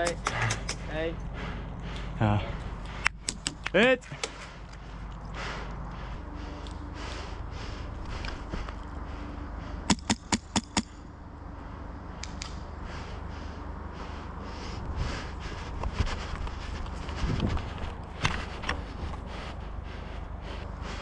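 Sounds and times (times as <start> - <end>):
footsteps and movement rustling: 0.0 - 9.8, 14.0 - 21.0.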